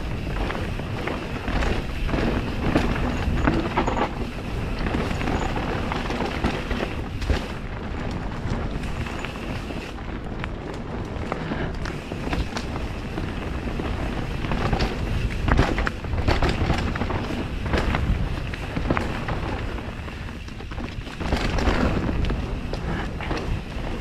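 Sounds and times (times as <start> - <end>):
bike knocks and rattles: 0.0 - 24.0
tyres rumbling over dirt: 0.0 - 24.0
wind buffeting microphone: 0.0 - 24.0.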